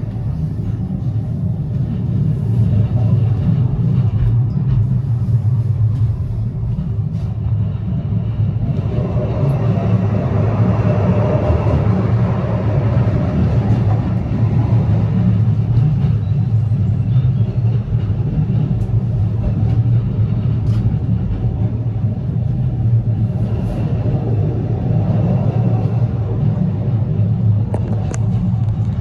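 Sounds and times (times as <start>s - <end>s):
vehicle rumble in motion: 0.0s - 29.0s.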